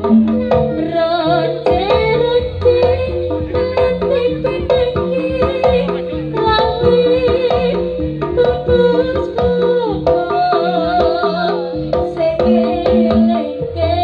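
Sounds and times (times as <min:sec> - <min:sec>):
gamelan music: 0:00.0 - 0:14.0
hand drums beating: 0:00.0 - 0:14.0.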